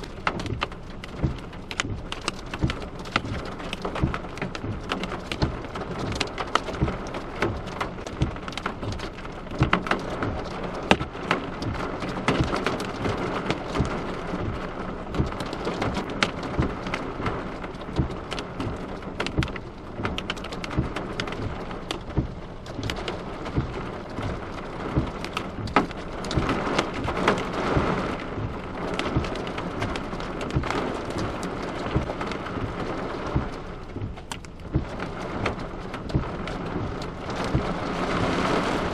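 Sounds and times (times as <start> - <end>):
hail pelting a car: 0.0 - 38.9
heavy rain rushing: 0.0 - 38.9.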